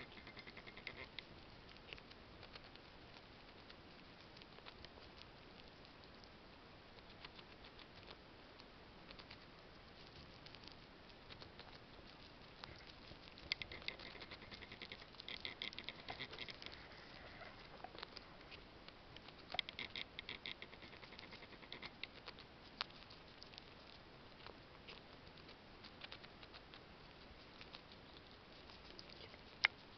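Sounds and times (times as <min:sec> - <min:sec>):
squirrel gnawing nut: 0:00.0 - 0:29.9.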